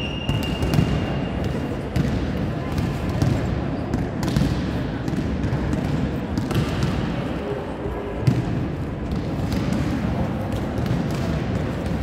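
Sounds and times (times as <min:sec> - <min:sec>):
volleyballs struck and bouncing: 0:00.0 - 0:12.0.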